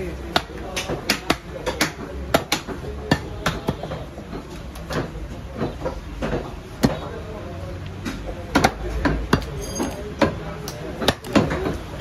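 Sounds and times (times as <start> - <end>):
cleaver chopping meat on wood: 0.1 - 7.1, 8.0 - 9.6, 10.2 - 11.8.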